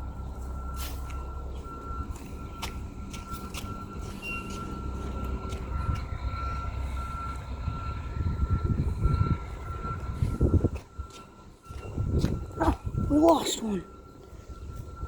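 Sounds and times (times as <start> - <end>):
backup alarm beeps: 0.0 - 15.0
vehicle engine rumbling: 0.0 - 15.0.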